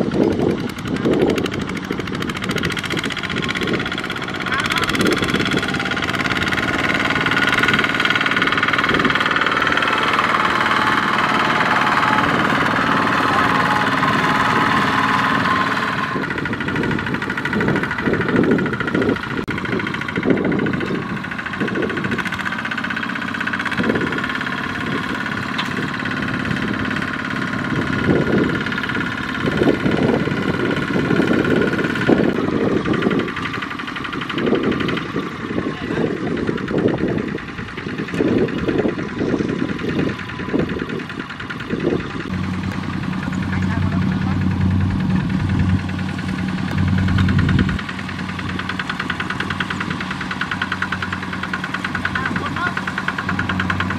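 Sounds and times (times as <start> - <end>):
small diesel tractor engine chugging: 0.0 - 53.9.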